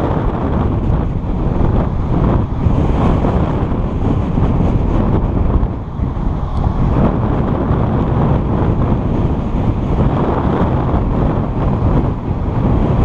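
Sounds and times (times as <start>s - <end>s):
car driving on road: 0.0s - 13.0s
wind buffeting microphone: 0.0s - 13.0s.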